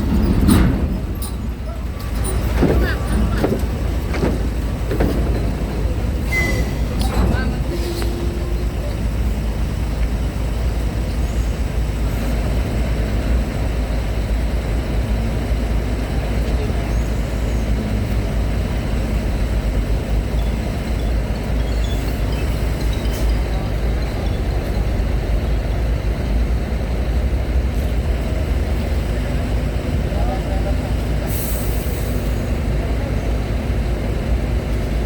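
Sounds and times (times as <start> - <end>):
heavy vehicle engines rumbling: 0.0 - 35.0.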